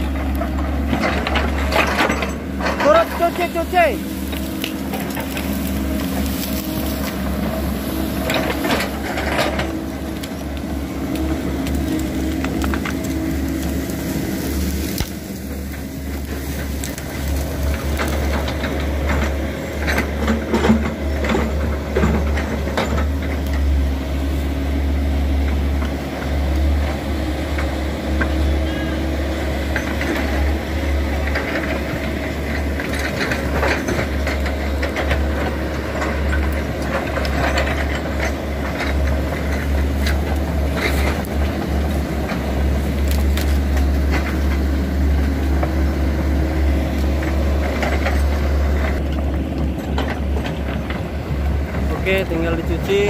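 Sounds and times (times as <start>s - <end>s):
excavator diesel engines: 0.0s - 53.0s
knocks and crackles of branches: 0.0s - 53.0s.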